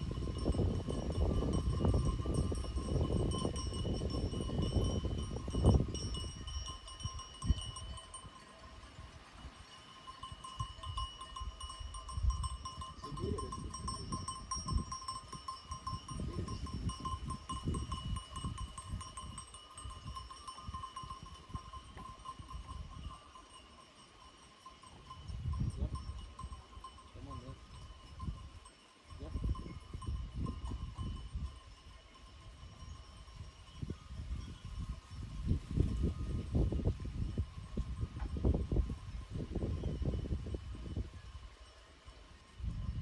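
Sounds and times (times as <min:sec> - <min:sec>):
livestock bells jingling: 0:00.0 - 0:43.0.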